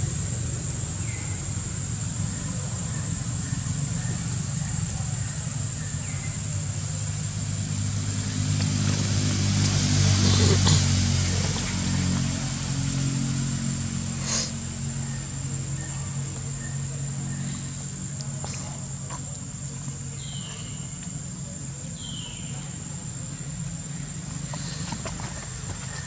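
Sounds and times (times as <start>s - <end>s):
high insect drone: 0.0s - 26.0s
steady low hum: 0.0s - 26.0s.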